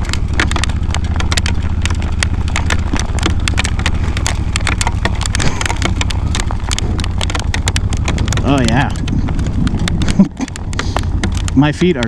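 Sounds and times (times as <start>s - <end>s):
hail clacking on hard surfaces: 0.0s - 12.0s
steady low rumble: 0.0s - 12.0s.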